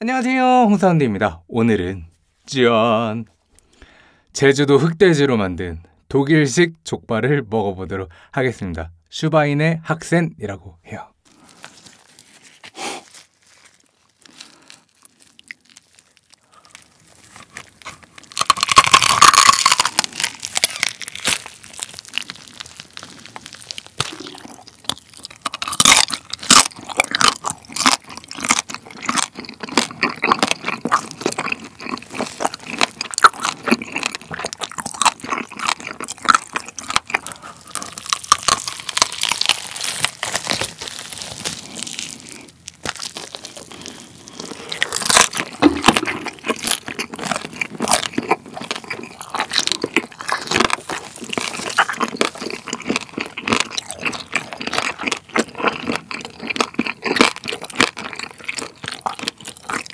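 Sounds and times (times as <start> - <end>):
crunchy biting and chewing: 11.3 - 59.9.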